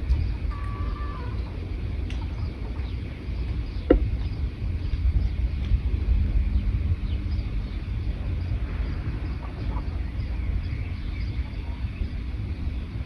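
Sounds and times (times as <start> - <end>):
songbirds chirping faintly: 0.0 - 13.0
steady low rumble: 0.0 - 13.0.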